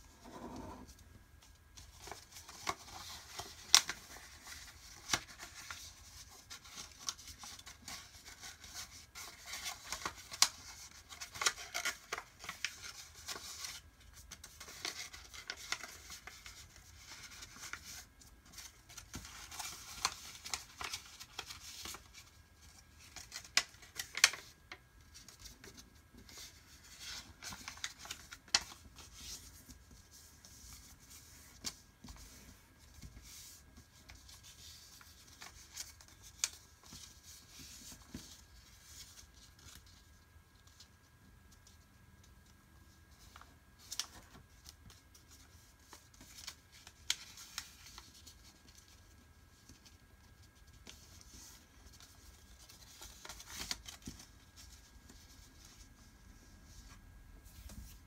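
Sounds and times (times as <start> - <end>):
paper rustling and creasing: 1.8 - 41.8, 42.8 - 58.0.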